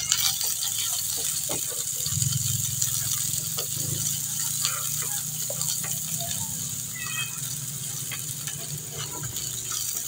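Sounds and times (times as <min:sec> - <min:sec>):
garlic sizzling in hot oil: 0:00.0 - 0:10.0
spatula scraping pan: 0:00.0 - 0:10.0.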